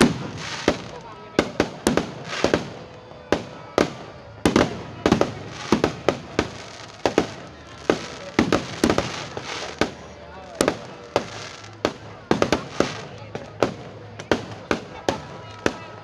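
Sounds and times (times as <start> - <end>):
fireworks shells bursting: 0.0 - 15.9.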